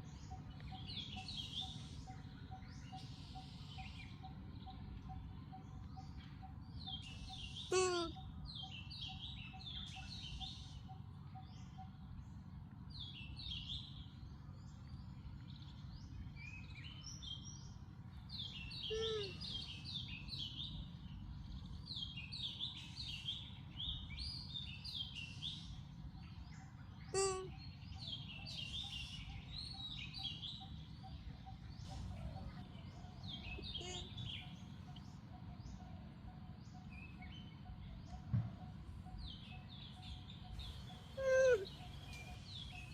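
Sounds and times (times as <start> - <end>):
low steady background noise: 0.0 - 42.9
small birds chirping: 0.0 - 42.9.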